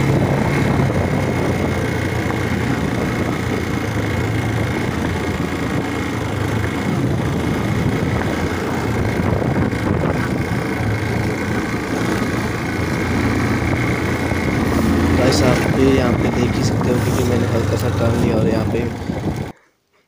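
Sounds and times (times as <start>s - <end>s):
motorcycle engine running: 0.0s - 19.5s
wind and road noise: 0.0s - 19.6s.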